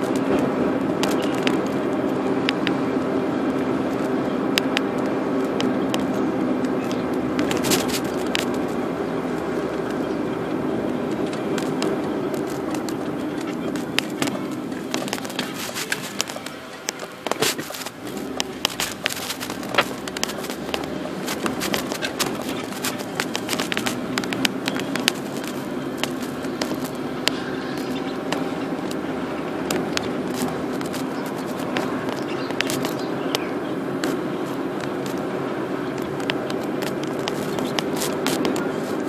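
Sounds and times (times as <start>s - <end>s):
car engine and road noise: 0.0s - 39.0s
sharp clicks and crackles: 0.0s - 39.0s.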